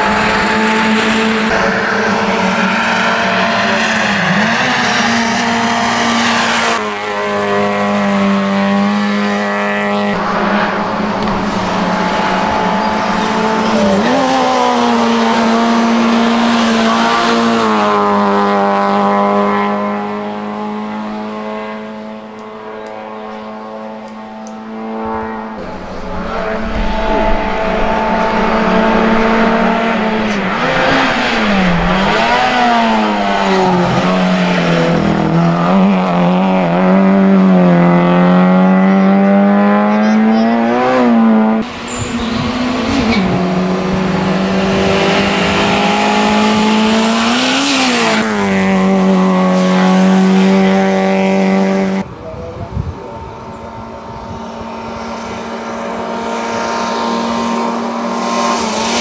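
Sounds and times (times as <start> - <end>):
racing car engine revving: 0.0 - 52.2, 53.1 - 59.0.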